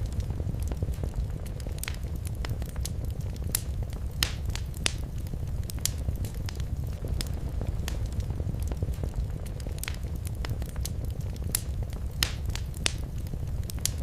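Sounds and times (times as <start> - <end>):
fire crackling and popping: 0.0 - 14.0
low steady rumble: 0.0 - 14.0.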